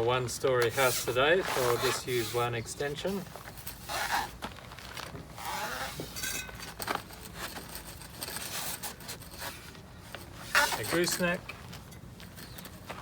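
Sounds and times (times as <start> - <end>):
pole sections rubbing and scraping: 0.4 - 13.0.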